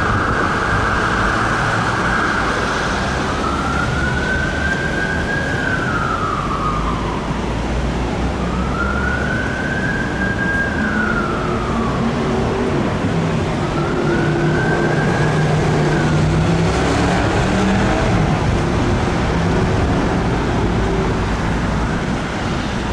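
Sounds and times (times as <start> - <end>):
ambulance siren wailing: 0.0 - 22.9
road traffic engines: 0.0 - 22.9.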